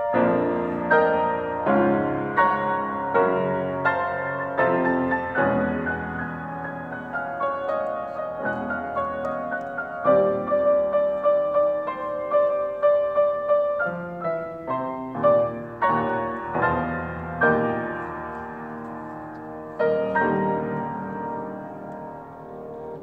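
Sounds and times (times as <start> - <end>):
grand piano duet: 0.0 - 23.0.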